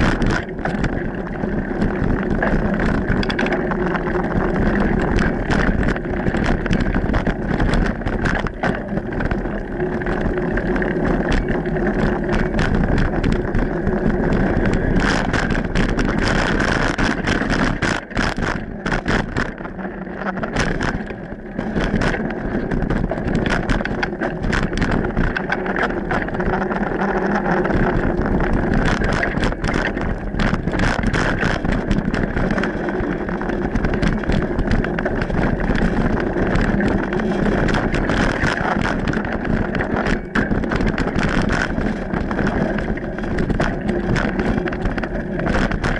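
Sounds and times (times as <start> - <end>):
bike rattling over bumps: 0.0 - 45.9
tyres rumbling on dirt: 0.0 - 45.9
wind buffeting microphone: 0.0 - 45.9.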